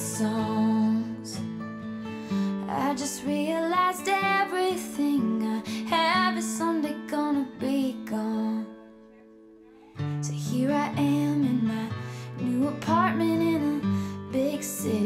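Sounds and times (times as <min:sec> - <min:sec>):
woman singing slow melody: 0:00.0 - 0:01.6, 0:02.4 - 0:09.2, 0:10.0 - 0:15.0
guitar: 0:00.0 - 0:15.0.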